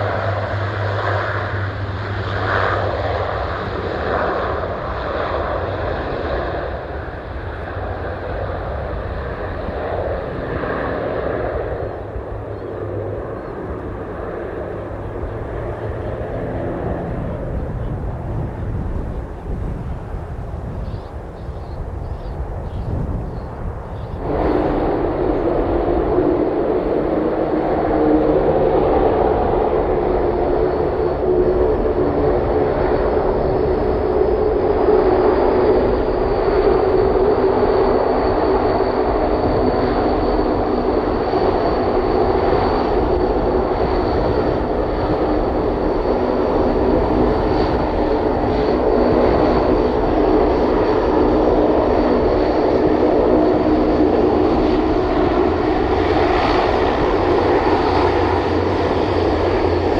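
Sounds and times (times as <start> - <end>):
high engine whine: 0.0 - 59.9
turboprop engines drone: 0.0 - 59.9.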